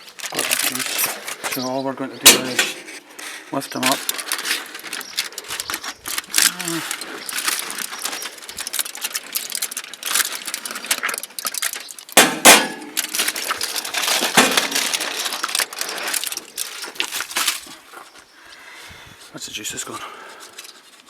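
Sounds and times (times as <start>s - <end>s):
aluminium foil crinkling: 0.0s - 18.3s, 20.1s - 21.0s.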